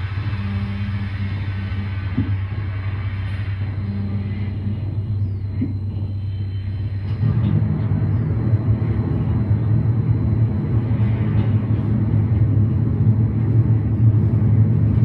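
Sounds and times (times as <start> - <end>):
synthesizer low drone: 0.0 - 15.0.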